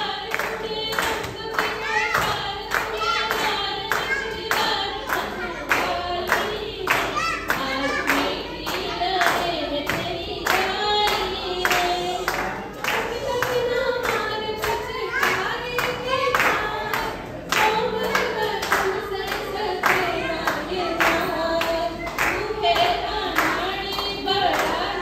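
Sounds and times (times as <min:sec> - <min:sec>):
women singing: 0:00.0 - 0:25.0
hands clapping: 0:00.3 - 0:24.8.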